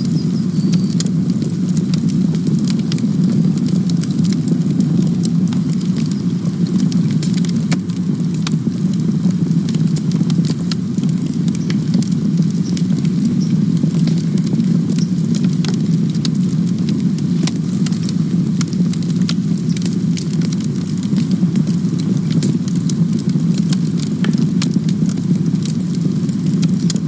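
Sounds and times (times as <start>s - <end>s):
burning wood crackling and popping: 0.0s - 27.0s
campfire flame rumble: 0.0s - 27.0s.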